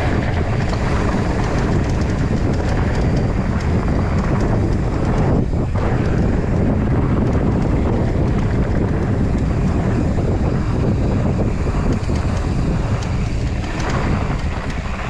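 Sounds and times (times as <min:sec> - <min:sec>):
bike tyres rattling on dirt: 0:00.0 - 0:15.0
wind buffeting microphone: 0:00.0 - 0:15.0.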